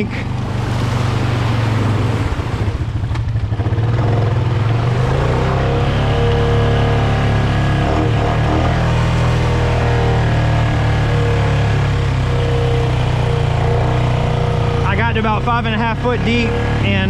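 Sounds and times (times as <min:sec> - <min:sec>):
engine running: 0:00.0 - 0:17.0
higher engine tone: 0:00.0 - 0:17.0.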